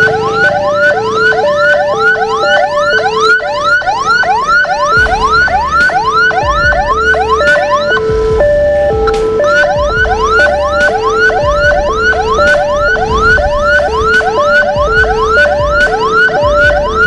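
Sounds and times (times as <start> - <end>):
fast yelp siren: 0.0 - 17.0
two-tone hi-lo siren: 0.0 - 17.0.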